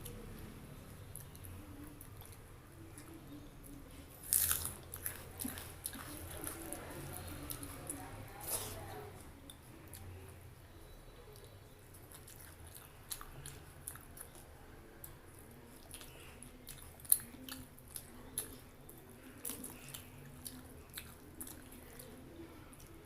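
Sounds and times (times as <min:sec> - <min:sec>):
chewing food: 0:00.0 - 0:23.0.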